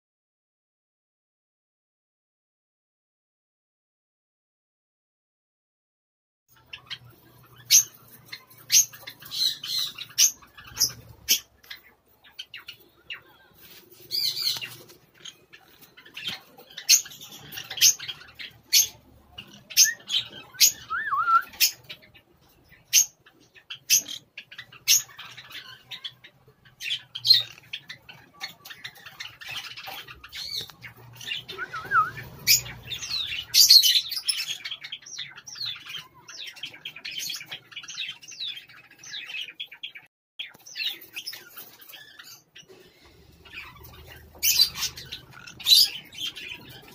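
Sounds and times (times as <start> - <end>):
parrots chattering: 6.5 - 46.9
parrots chirping and squawking: 6.5 - 46.9.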